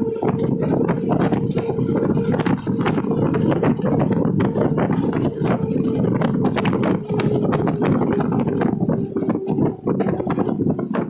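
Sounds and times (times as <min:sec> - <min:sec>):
fast rattle of clicks: 0:00.0 - 0:11.0
vehicle hum: 0:00.0 - 0:11.0.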